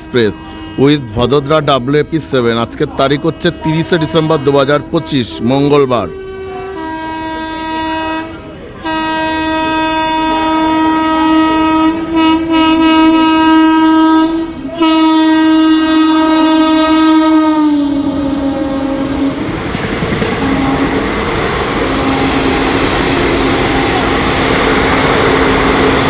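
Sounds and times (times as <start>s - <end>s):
train air horn blasts: 0.0s - 1.5s, 3.1s - 26.0s
passing train rush and clatter: 0.0s - 26.0s.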